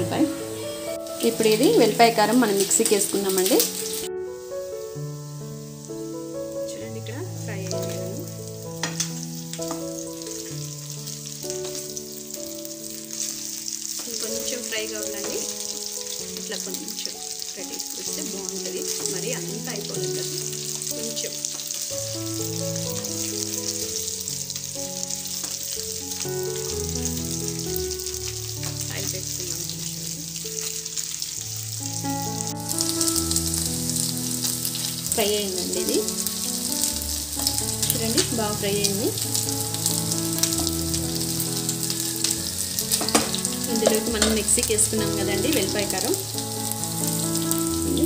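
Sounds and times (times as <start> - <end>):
background music with held notes: 0.0 - 48.0
chicken frying in oil: 0.0 - 48.0.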